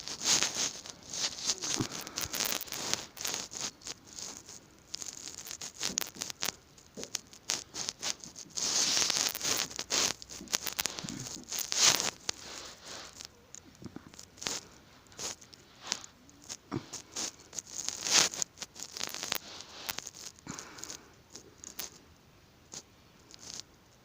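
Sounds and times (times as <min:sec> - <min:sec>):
cat scratching and rustling: 0:00.0 - 0:22.0, 0:23.3 - 0:23.6.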